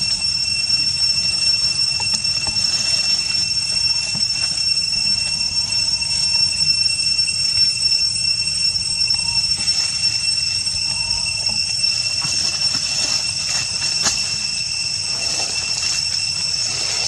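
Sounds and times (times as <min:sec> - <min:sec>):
cicada chorus drone: 0:00.0 - 0:17.0.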